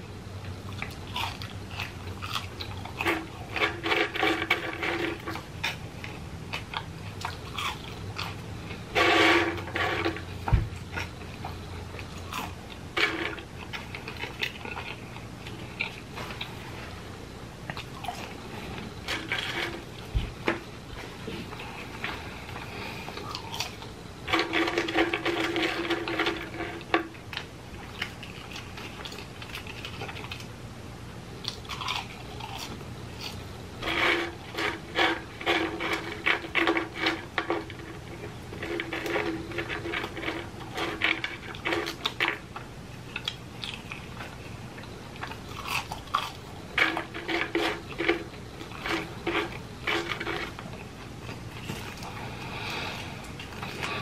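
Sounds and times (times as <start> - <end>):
steady pitched hum: 0.0 - 54.0
chewing fries crunching: 0.4 - 30.6, 31.4 - 54.0.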